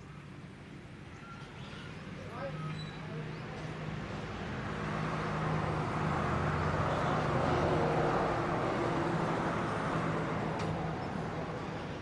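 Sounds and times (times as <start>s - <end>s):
engine hum: 2.2s - 12.0s.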